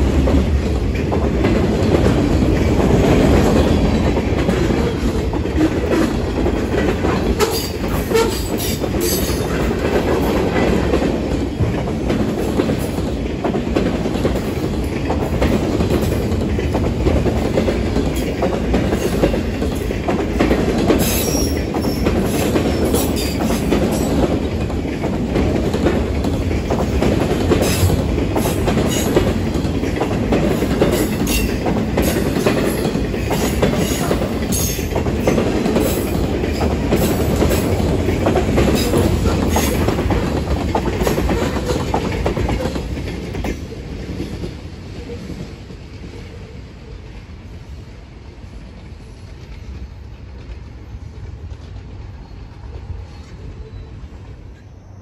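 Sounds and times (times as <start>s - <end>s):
train wheels clacking over rail joints: 0.0s - 46.5s
train rumble: 0.0s - 55.0s.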